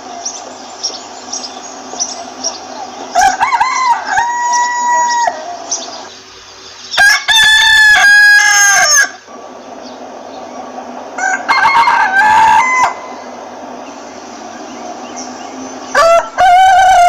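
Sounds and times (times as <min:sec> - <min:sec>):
faint chicken calls: 0:00.0 - 0:17.0
roosters crowing: 0:00.0 - 0:17.0.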